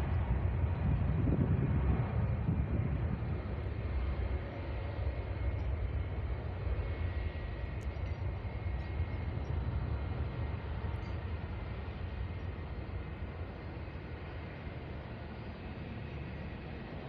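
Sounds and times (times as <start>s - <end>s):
distant jet engines rumbling: 0.0s - 17.0s.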